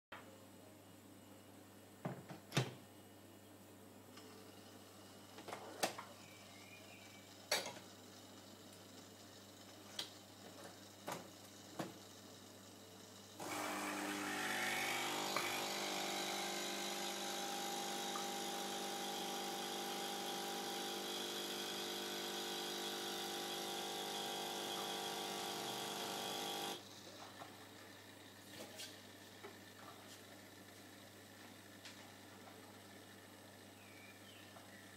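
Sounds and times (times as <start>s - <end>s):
coffee machine pump buzzing: 4.2s - 33.6s.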